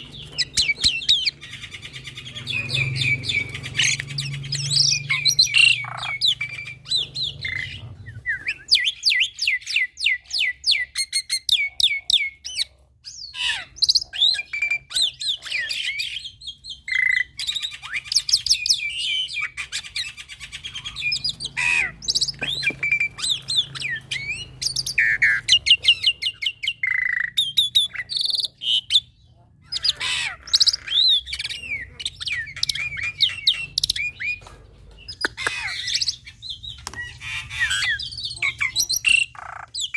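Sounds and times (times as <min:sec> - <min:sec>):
myna bird singing: 0:00.0 - 0:39.9.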